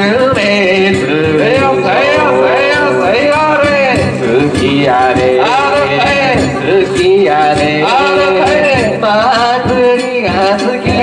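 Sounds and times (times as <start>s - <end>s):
person singing long bending notes: 0.6s - 11.0s.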